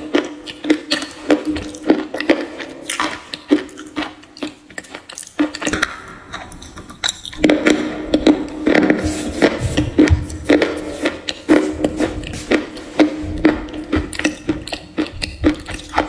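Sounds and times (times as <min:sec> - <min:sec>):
teeth crunching stone: 0:00.0 - 0:16.0.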